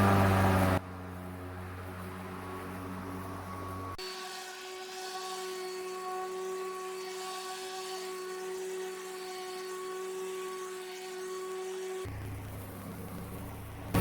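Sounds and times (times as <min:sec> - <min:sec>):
electric lawn mower whine: 0:00.0 - 0:14.0.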